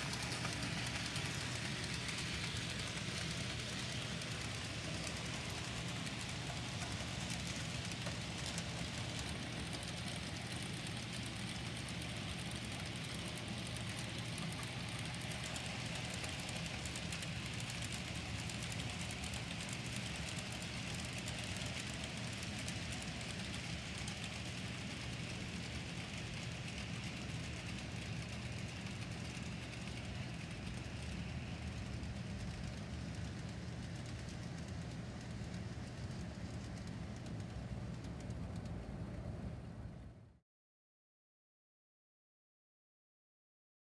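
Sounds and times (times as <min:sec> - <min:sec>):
model trains running: 0:00.0 - 0:40.3.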